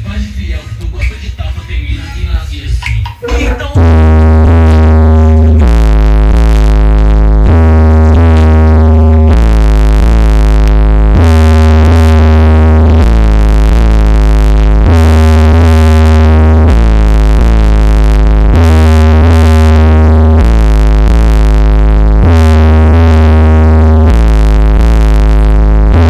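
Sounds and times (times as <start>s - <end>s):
heavy deep bass notes: 0.0s - 26.0s
held synthesizer chords: 2.8s - 26.0s.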